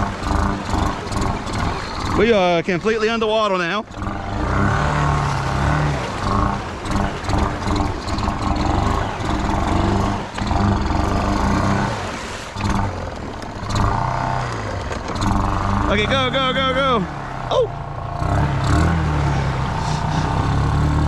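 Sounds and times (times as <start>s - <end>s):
atv engine revving: 0.0s - 21.0s
vehicle pushing through water: 0.0s - 21.0s.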